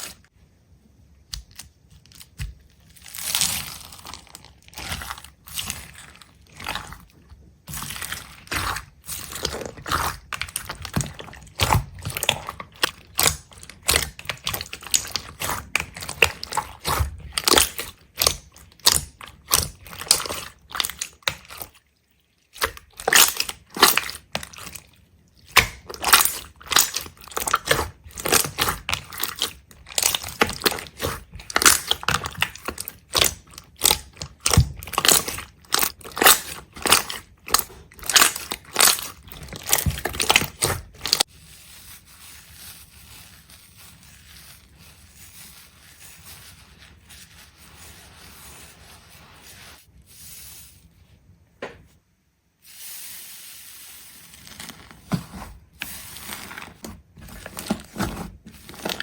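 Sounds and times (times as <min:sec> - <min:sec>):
brittle crunching and crackling: 0:01.3 - 0:49.8, 0:54.1 - 0:59.0.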